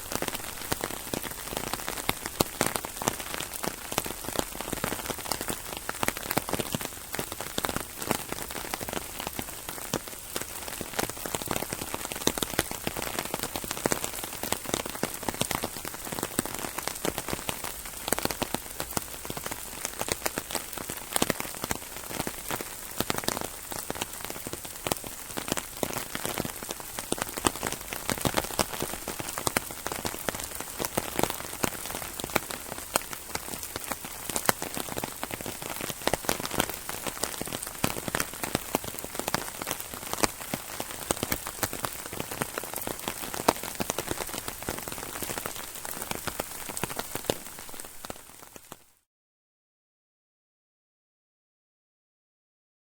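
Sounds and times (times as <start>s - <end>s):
rain drumming on an umbrella: 0.0s - 49.0s.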